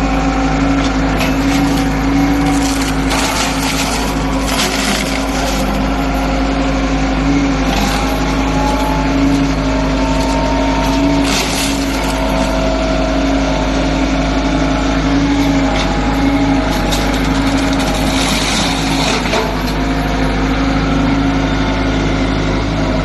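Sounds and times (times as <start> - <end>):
wood crackling and splintering: 0.0 - 21.0
diesel engine running under load: 0.0 - 23.0.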